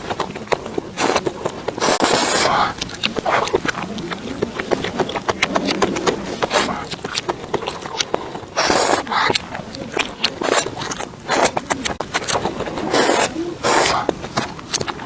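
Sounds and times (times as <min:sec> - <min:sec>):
chewing and mouth clicks: 0:00.0 - 0:15.0.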